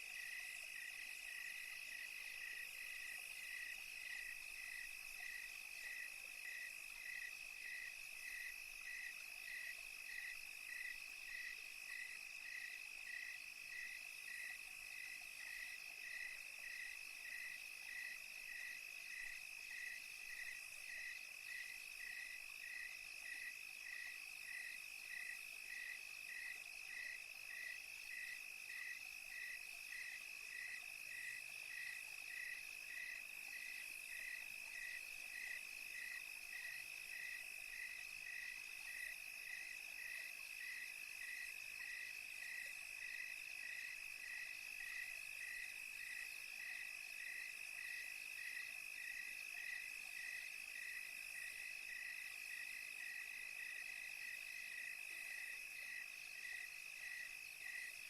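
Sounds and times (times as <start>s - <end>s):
cricket chirping in pulses: 0.0s - 58.0s.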